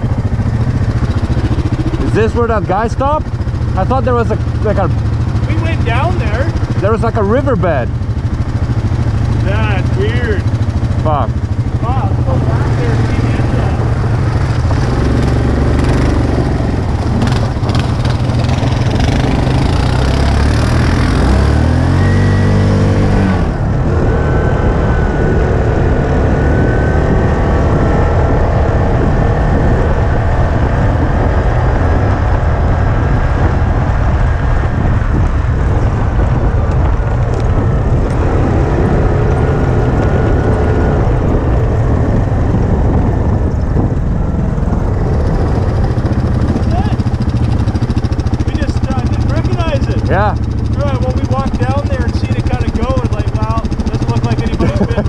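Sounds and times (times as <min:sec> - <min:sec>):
road noise: 0:00.0 - 0:55.0
vehicle engine revving: 0:00.0 - 0:55.0.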